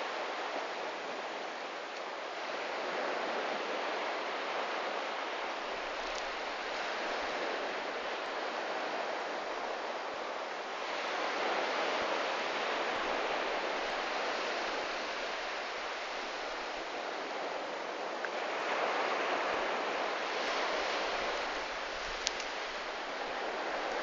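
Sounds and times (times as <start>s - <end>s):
sea waves washing onto beach: 0.0s - 24.0s.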